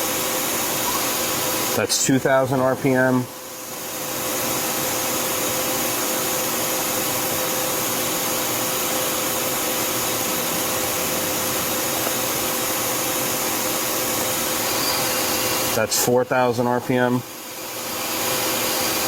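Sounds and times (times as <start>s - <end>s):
lathe spindles whirring: 0.0s - 19.0s.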